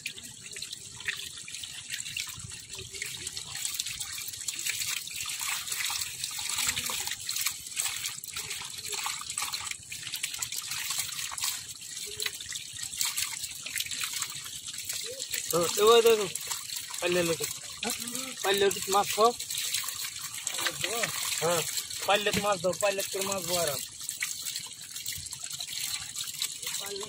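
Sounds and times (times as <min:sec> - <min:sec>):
water running and splashing: 0:00.0 - 0:27.0.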